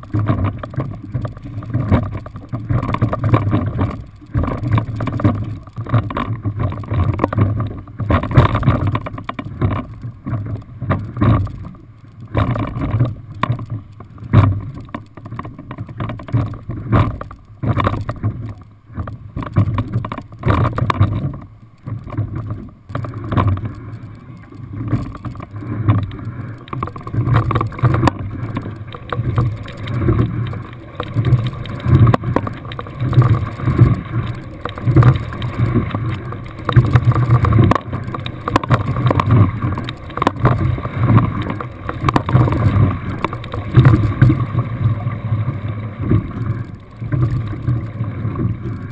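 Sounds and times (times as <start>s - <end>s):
oars and rigging knocking: 0.0s - 48.9s
water rushing along hull: 0.0s - 48.9s.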